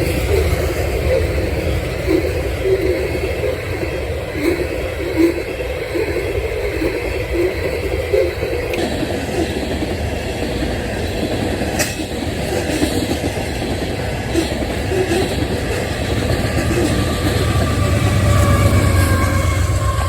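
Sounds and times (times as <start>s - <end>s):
train wheels rumbling on rails: 0.0s - 20.0s
wheels clacking over rail joints: 0.0s - 20.0s.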